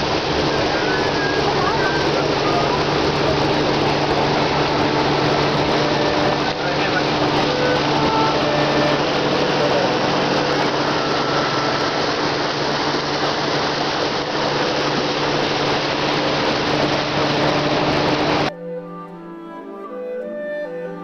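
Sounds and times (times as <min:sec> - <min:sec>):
water rushing: 0:00.0 - 0:18.5
boat engine humming: 0:00.0 - 0:21.0.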